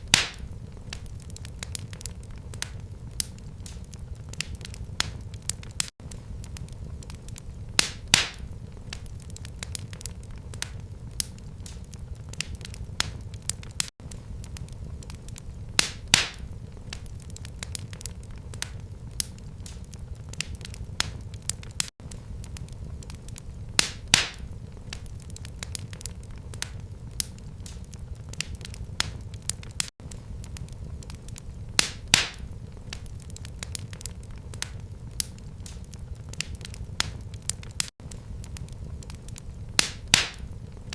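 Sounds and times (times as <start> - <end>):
fire crackling: 0.0 - 40.9
low rumble of flames: 0.0 - 40.9
wood fire popping: 0.0 - 40.9.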